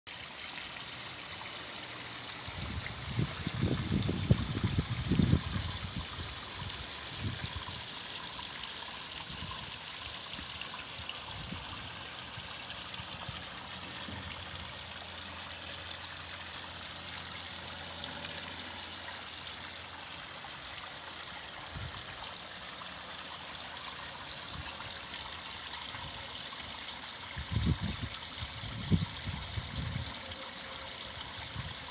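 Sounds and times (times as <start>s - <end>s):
waterfall running: 0.1s - 31.9s.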